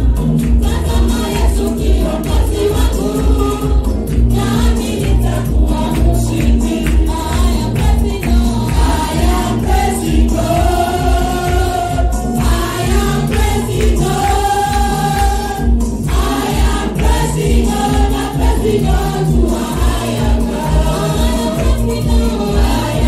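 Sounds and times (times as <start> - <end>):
choir singing gospel: 0.0 - 23.0
instrumental backing with heavy bass: 0.0 - 23.0.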